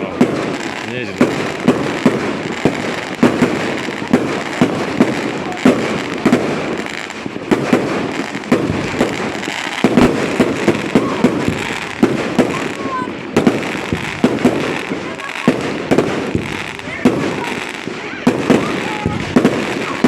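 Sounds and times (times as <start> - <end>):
fireworks bangs and pops: 0.0 - 20.0
fireworks crackling: 0.0 - 20.0.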